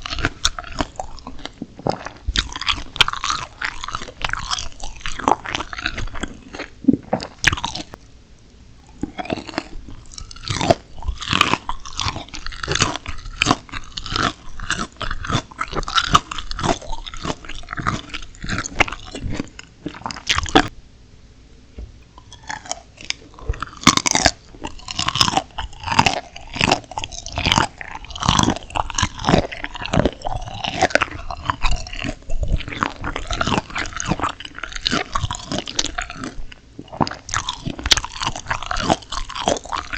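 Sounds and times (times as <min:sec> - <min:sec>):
crunchy biting and chewing: 0:00.0 - 0:08.0, 0:08.8 - 0:20.7, 0:22.1 - 0:39.9.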